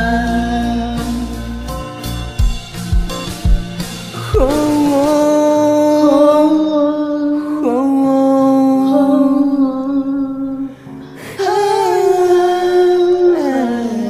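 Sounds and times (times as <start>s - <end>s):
person singing long notes: 0.0s - 1.8s, 4.2s - 14.0s
pop ballad music: 0.0s - 14.0s.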